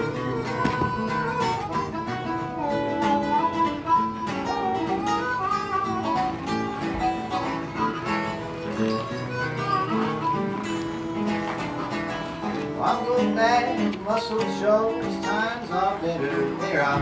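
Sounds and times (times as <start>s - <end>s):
sliding melody instrument: 0.0s - 16.8s
acoustic guitar fingerpicking: 0.0s - 17.0s.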